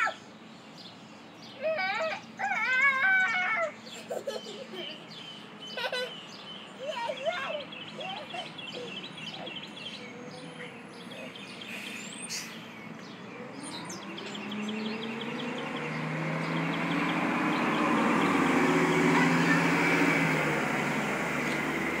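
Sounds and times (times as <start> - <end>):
bus engine approaching: 0.0 - 22.0
small birds chirping: 0.0 - 22.0.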